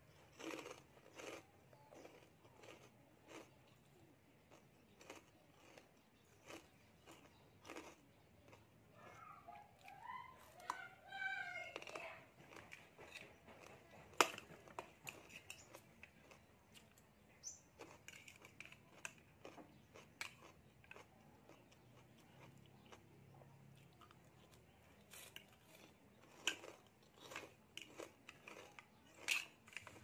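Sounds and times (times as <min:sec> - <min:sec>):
soft chewing: 0:00.0 - 0:30.0.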